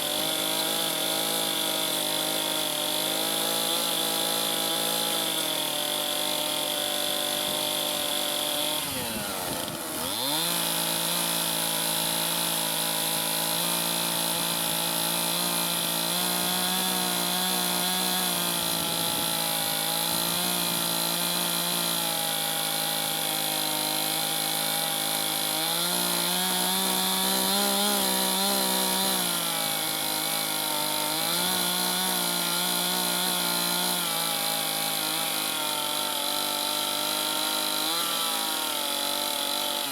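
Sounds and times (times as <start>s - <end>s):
chainsaw cutting into log: 0.0s - 39.9s.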